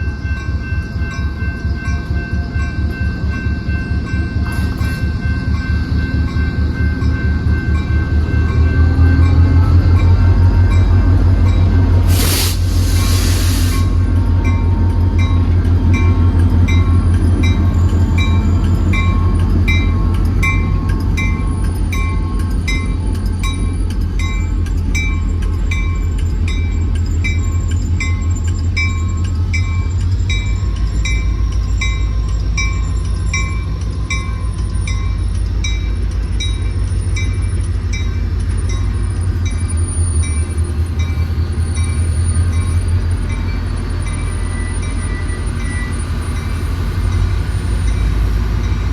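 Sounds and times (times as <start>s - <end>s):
crossing bell ringing: 0.0s - 11.9s, 14.0s - 48.9s
train rumbling by: 0.0s - 48.9s.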